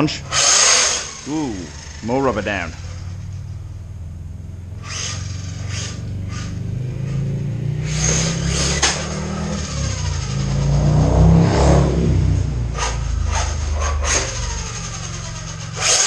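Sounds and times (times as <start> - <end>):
rc car motor running: 0.0 - 7.1, 7.8 - 10.8, 12.7 - 16.0
motor and tyre surges: 0.0 - 16.0.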